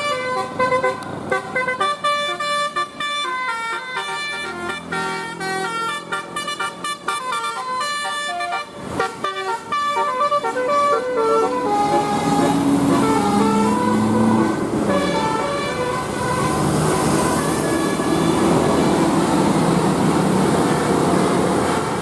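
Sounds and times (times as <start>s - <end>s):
musical bus air horn tune: 0.0s - 19.7s, 21.4s - 22.0s.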